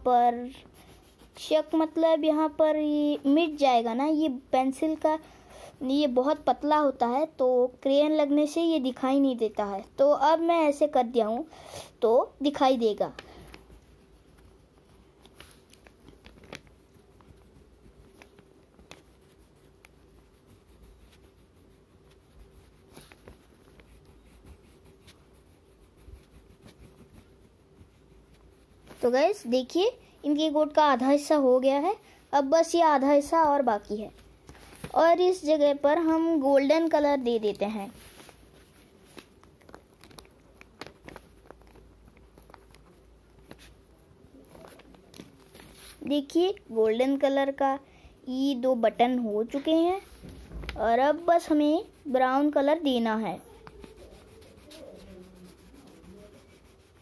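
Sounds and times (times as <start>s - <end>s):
wax crayon scratching on paper: 0.3s - 11.4s, 12.0s - 47.7s, 48.3s - 57.0s.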